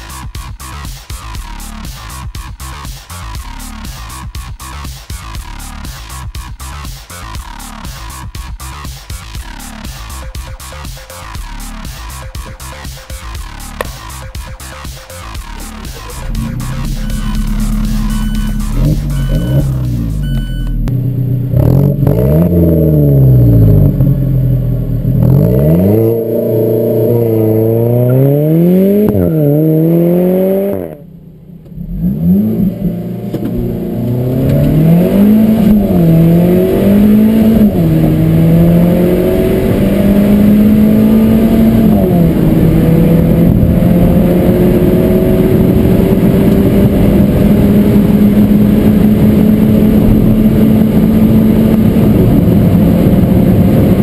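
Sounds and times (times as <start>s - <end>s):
car engine revving and accelerating: 0.0s - 54.0s.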